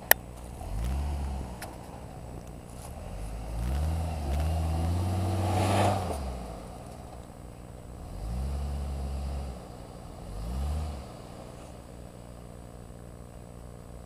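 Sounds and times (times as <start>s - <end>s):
engine revving and idling: 0.0s - 14.0s.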